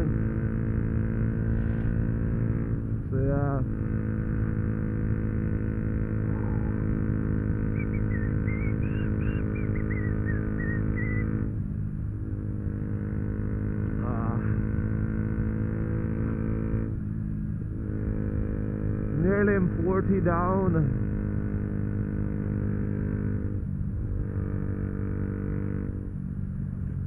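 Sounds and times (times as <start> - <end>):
motorcycle engine droning: 0.0 - 27.0.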